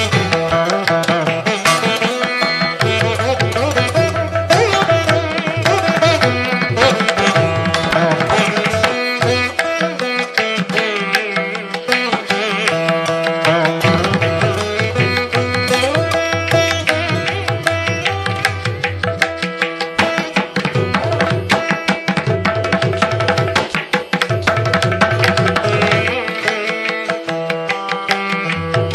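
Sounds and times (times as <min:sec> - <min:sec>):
hand drums: 0:00.0 - 0:28.9
plucked strings: 0:00.0 - 0:28.9.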